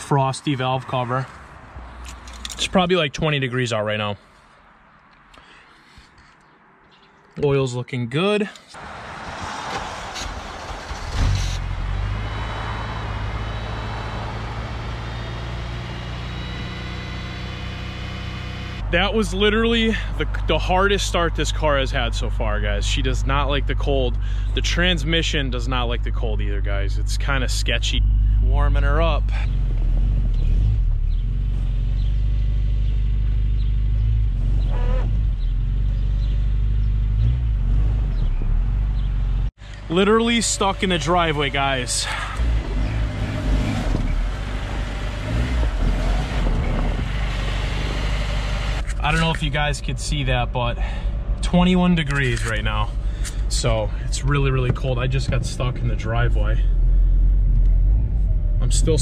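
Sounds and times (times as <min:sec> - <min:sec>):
car engine starting and idling: 0:08.8 - 0:59.0.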